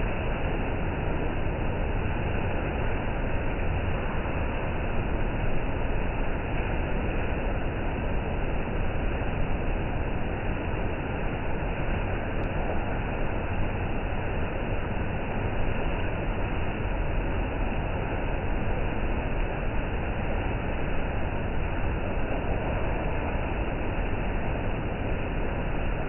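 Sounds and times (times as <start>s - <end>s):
heavy rain in gusty wind: 0.0s - 26.0s.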